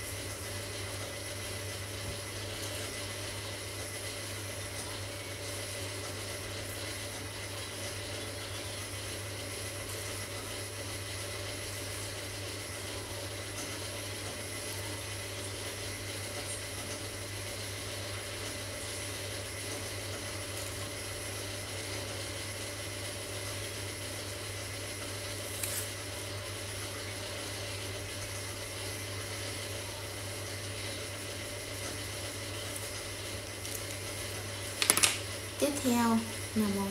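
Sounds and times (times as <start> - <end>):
low hum with hiss: 0.0 - 36.9.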